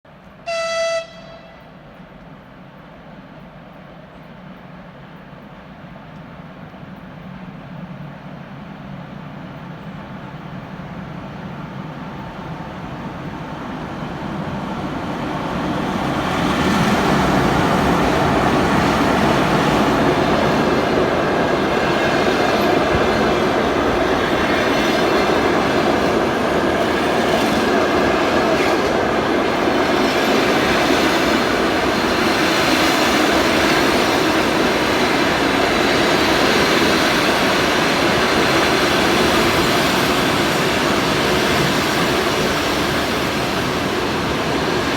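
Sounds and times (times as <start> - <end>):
train wheels rumbling on rail: 0.1 - 44.9.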